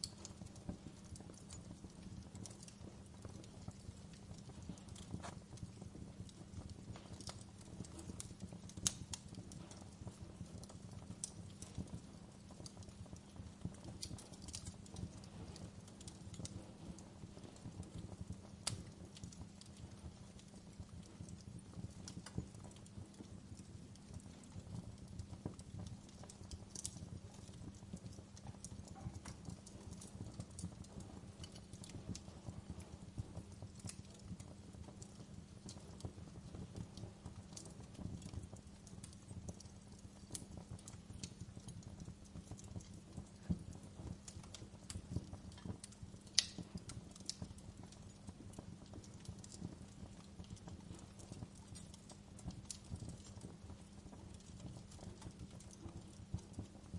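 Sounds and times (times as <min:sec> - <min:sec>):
low rumble of burning wood: 0:00.0 - 0:56.9
wood fire pops and snaps: 0:00.0 - 0:56.9.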